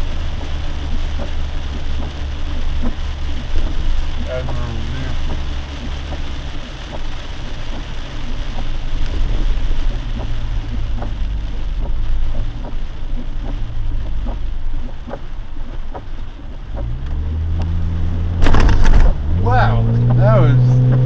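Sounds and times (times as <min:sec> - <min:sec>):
rain and water tapping body: 0:00.0 - 0:21.0
vehicle engine and tyre rumble: 0:00.0 - 0:21.0.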